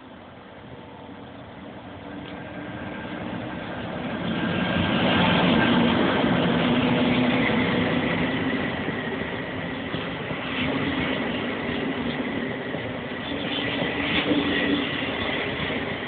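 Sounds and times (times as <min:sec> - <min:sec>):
electric locomotive humming: 0:00.0 - 0:16.0
train wheel noise: 0:00.0 - 0:16.0.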